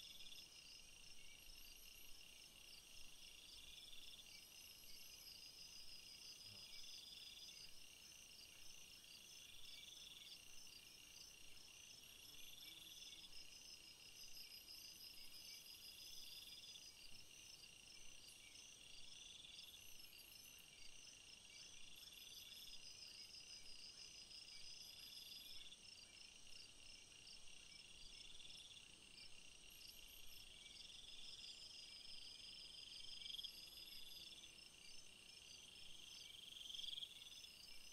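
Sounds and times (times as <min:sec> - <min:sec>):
insects chirping: 0:00.0 - 0:37.9.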